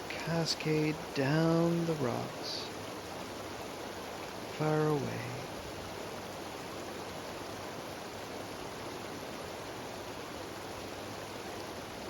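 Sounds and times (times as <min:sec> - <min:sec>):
mountain stream cascading over rocks: 0:00.0 - 0:12.0.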